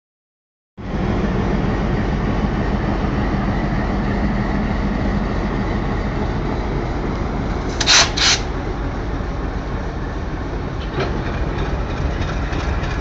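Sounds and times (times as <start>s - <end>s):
train rumbling along rails: 0.8s - 13.0s.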